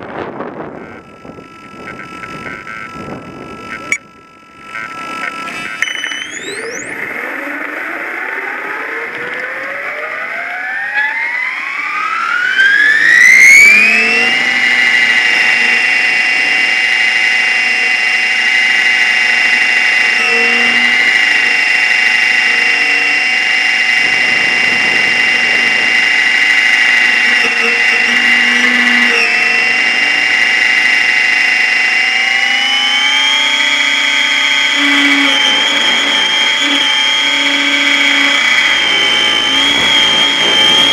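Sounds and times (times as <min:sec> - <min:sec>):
helicopter rotor whine: 0:00.0 - 0:40.9.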